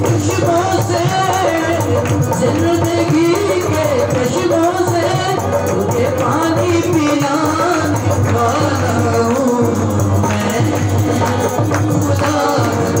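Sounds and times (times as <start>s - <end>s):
hand drum rhythm: 0.0s - 13.0s
harmonium: 0.0s - 13.0s
man singing worship song: 0.0s - 13.0s.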